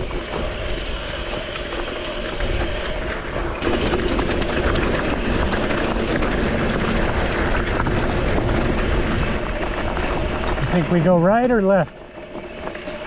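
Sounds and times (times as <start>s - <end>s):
bike clattering and rattling: 0.0s - 13.0s
bike tyres crunching on dirt: 0.0s - 13.0s.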